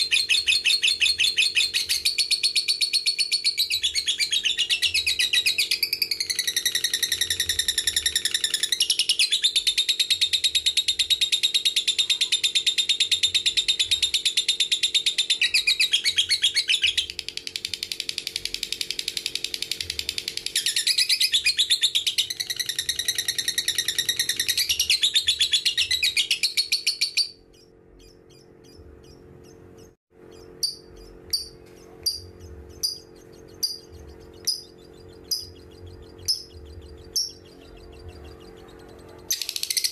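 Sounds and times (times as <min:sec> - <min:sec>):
bird chirps: 0:00.0 - 0:39.9
lovebird chattering trill: 0:00.0 - 0:39.9.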